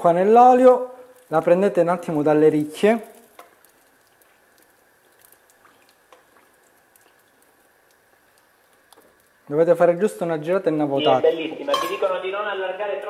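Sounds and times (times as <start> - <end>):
dough sizzling in oil: 0.0 - 13.0.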